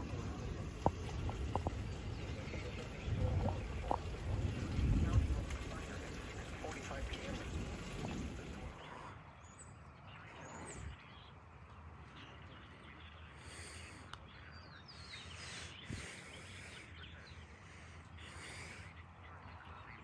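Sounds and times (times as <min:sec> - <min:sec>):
birds chirping: 0:00.0 - 0:20.0
faint outdoor ambience: 0:00.0 - 0:20.0.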